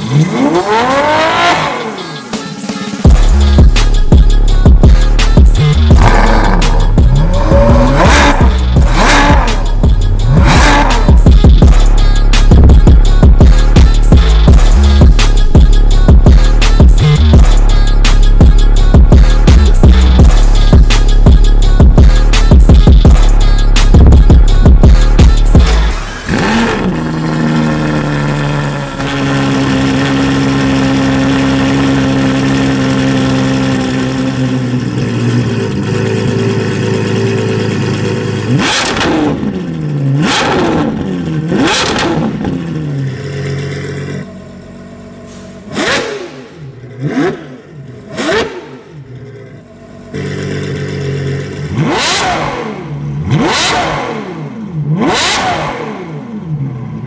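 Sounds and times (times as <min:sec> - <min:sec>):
sharp engine revs: 0:00.0 - 0:02.3, 0:05.2 - 0:15.6, 0:22.3 - 0:57.0
car engine idling: 0:00.0 - 0:57.0.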